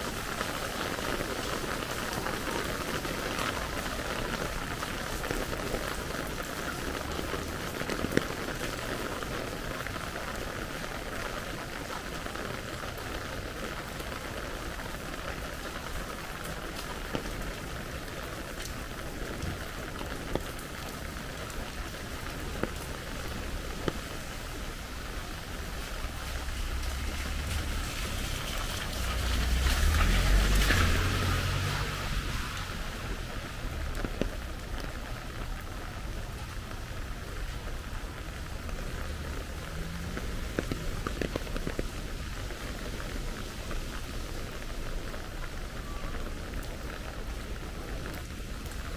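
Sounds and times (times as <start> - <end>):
rain on wet pavement: 0.0 - 48.9.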